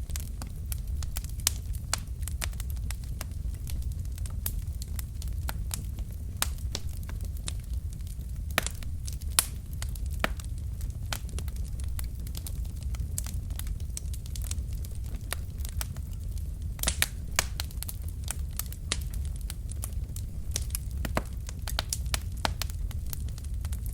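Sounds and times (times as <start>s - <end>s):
low rumble of fire: 0.0s - 23.9s
wood fire crackling and popping: 0.0s - 23.9s.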